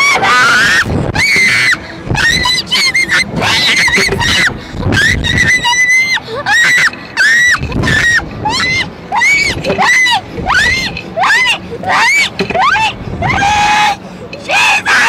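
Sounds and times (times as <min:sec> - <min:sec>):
girls screaming: 0:00.0 - 0:15.0.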